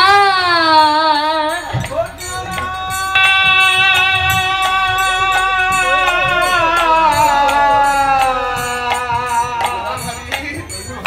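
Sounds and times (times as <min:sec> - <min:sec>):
hand cymbals: 0:00.0 - 0:11.0
voices singing long note: 0:00.0 - 0:11.0
hand drum beat: 0:01.2 - 0:11.0.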